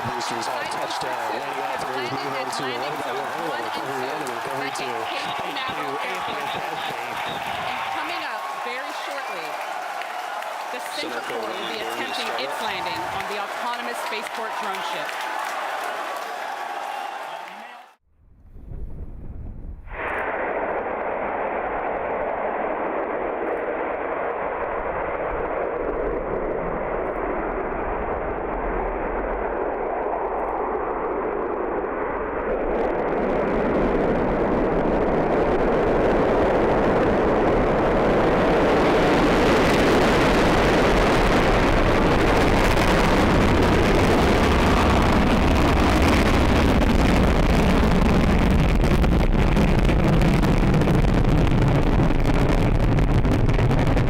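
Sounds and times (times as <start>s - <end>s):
rocket engines roaring: 0.0s - 15.1s, 19.9s - 54.0s.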